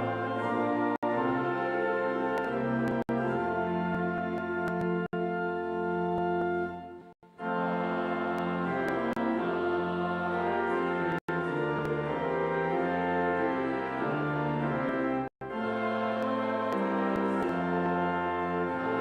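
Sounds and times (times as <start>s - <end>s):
brass quintet playing chords: 0.0s - 19.0s.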